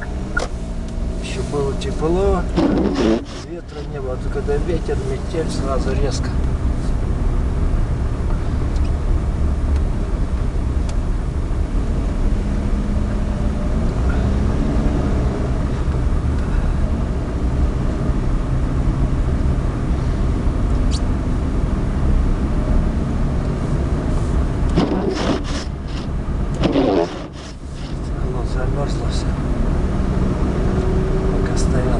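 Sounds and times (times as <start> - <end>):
car engine hum: 0.0 - 31.9
road and tyre rumble: 0.0 - 31.9.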